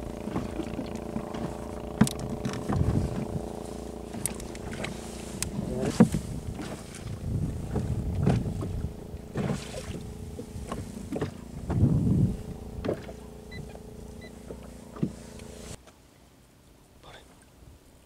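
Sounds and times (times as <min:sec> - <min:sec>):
boat low hum: 0:00.0 - 0:18.0.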